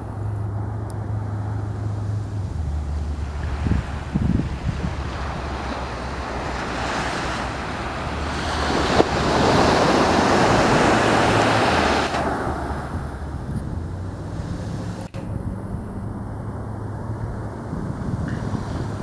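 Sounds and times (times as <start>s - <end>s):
surf washing onto beach: 1.5s - 15.1s, 17.2s - 19.0s.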